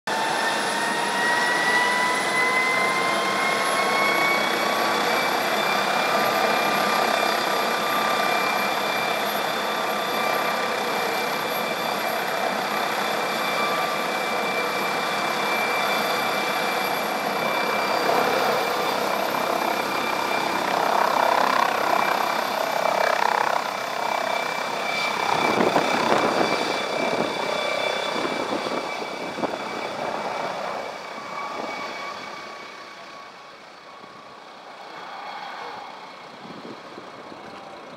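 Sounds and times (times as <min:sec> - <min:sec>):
helicopter rotor noise: 0:00.1 - 0:37.9
helicopter turbine engines whining: 0:00.1 - 0:37.9.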